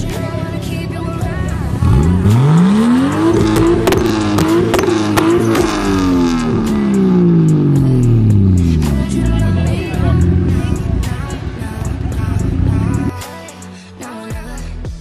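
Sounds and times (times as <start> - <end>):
exhaust cracks: 0.0 - 13.1
car engine revving: 0.0 - 13.2.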